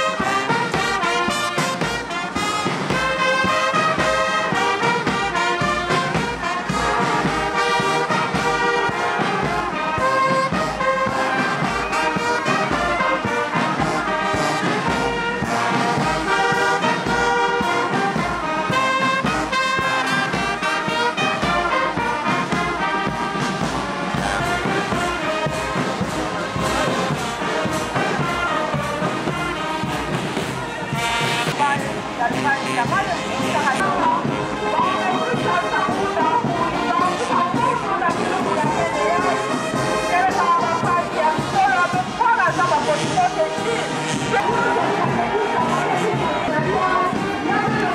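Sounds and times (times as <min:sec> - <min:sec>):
steady drum beat: 0:00.0 - 0:47.9
trumpets and sousaphones melody: 0:00.0 - 0:47.9.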